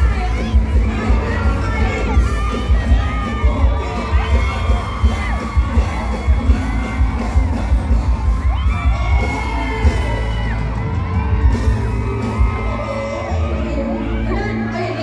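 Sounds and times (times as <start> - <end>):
crowd screaming and cheering: 0.0 - 15.0
live band music: 0.0 - 15.0.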